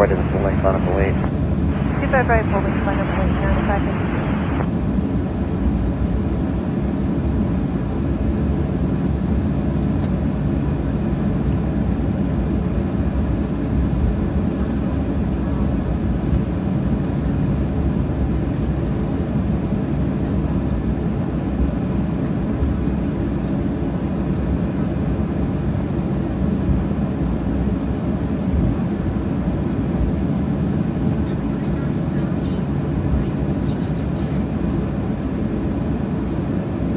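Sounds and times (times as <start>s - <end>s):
jet engines idling in cabin: 0.0s - 36.9s.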